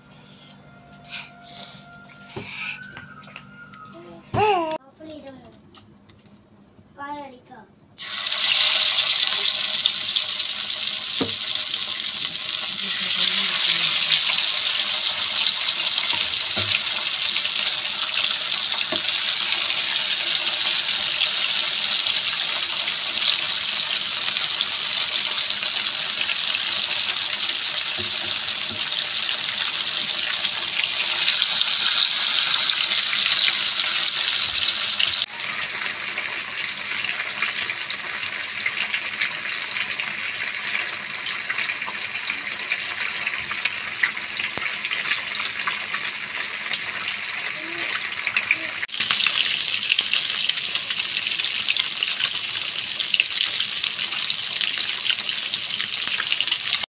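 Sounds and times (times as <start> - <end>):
fish sizzling in hot oil: 8.0 - 56.9.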